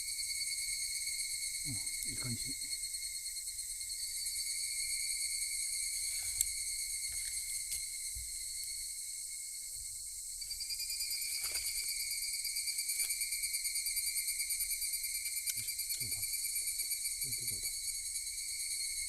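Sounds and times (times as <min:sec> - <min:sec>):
insects trilling: 0:00.0 - 0:19.0
rapidly pulsing insect trill: 0:00.0 - 0:19.0.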